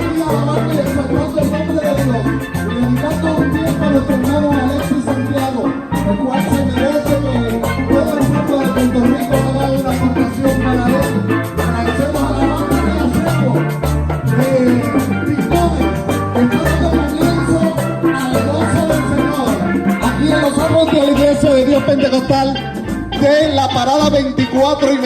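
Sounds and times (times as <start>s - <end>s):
steel band playing upbeat tune: 0.0s - 25.0s.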